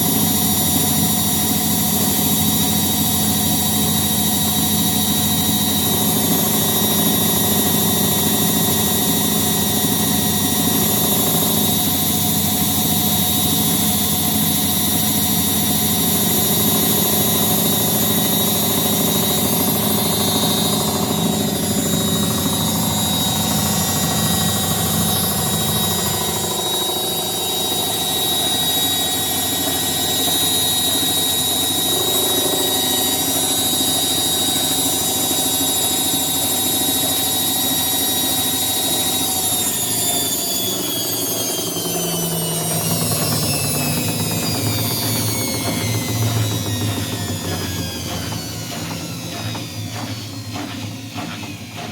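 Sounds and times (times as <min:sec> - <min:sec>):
washing machine knocking: 0:00.0 - 0:39.5, 0:41.9 - 0:51.9
washing machine spinning: 0:00.0 - 0:51.9.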